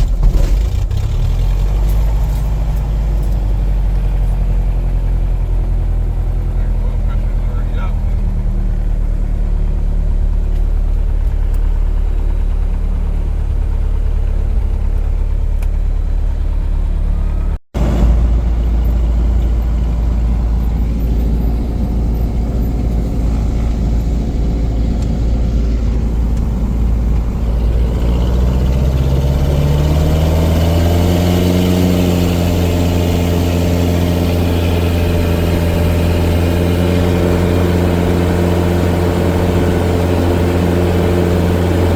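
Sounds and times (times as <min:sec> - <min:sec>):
propeller plane engine running: 0:00.0 - 0:41.9.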